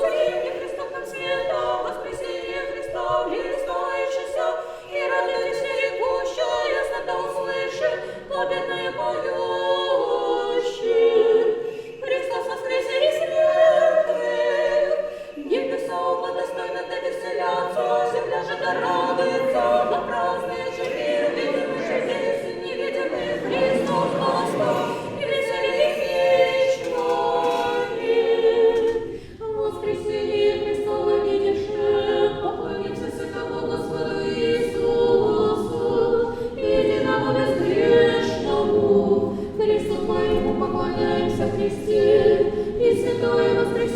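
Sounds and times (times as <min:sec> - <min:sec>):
choir singing a cappella: 0:00.0 - 0:43.9.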